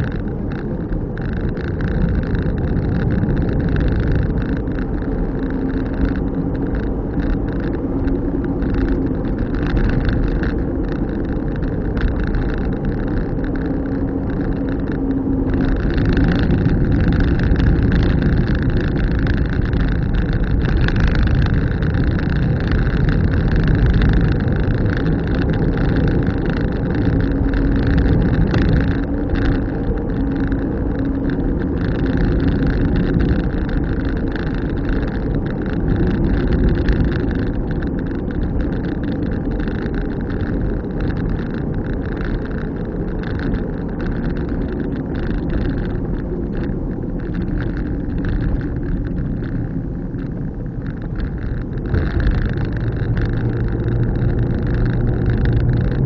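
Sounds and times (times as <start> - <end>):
car engine and tyre rumble: 0.0 - 56.0
low hum: 0.0 - 56.0.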